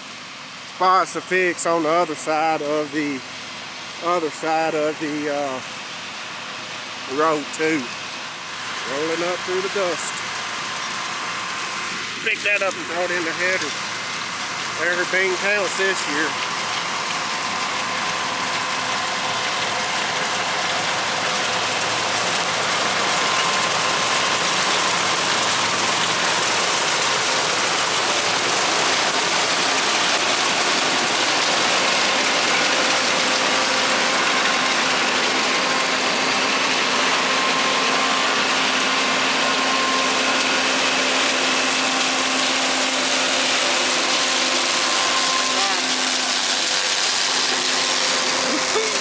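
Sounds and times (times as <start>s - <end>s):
steady whining tones: 0.0s - 18.2s, 22.4s - 49.0s
combine harvester din: 0.5s - 49.0s.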